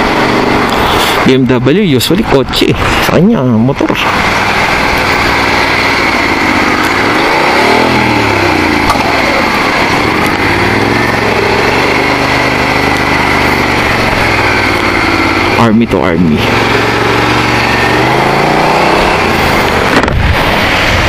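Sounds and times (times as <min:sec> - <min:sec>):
motorcycle engine revving: 0:00.0 - 0:21.0
wind and road noise: 0:00.0 - 0:21.0.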